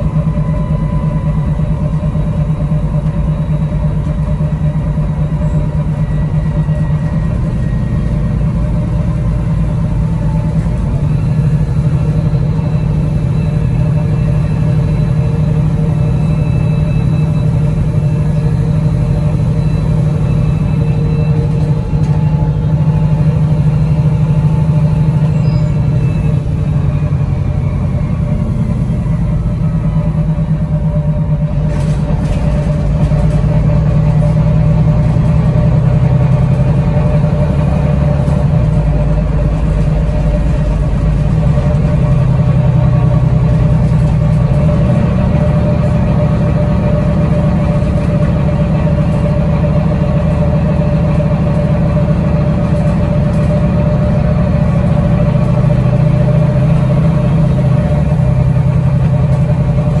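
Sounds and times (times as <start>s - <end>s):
bus engine droning: 0.0s - 60.0s
drivetrain whine: 0.0s - 60.0s.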